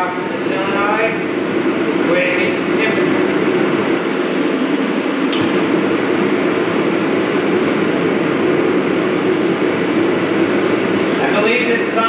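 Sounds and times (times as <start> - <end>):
heater blower rushing: 0.0 - 12.0.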